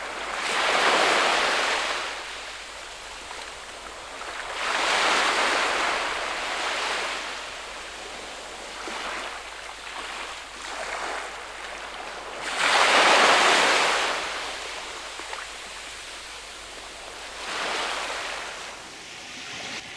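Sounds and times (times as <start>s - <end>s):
ocean waves washing: 0.0s - 19.9s.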